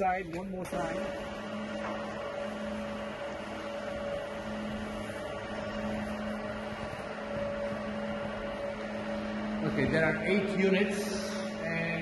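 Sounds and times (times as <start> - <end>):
steady machinery hum: 0.0 - 12.0.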